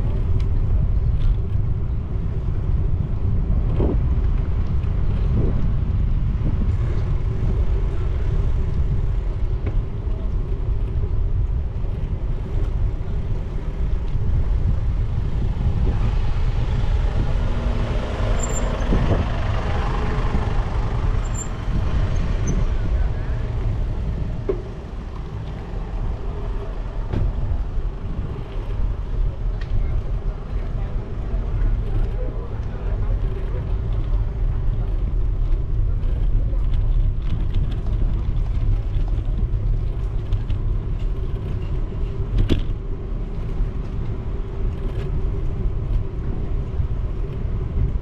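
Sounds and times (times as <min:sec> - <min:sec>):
motorcycle engine rumble: 0:00.0 - 0:48.0
vehicles passing: 0:00.0 - 0:48.0.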